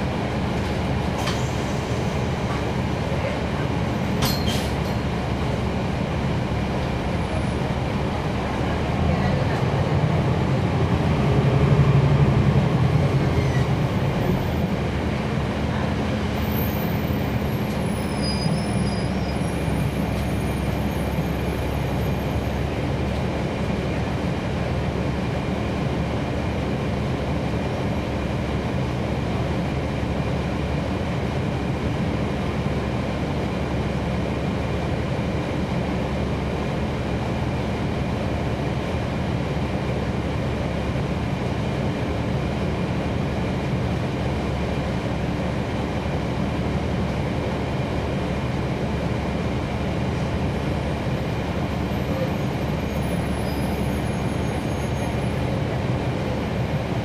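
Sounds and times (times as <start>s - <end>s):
bus diesel engine rumble: 0.0s - 57.0s.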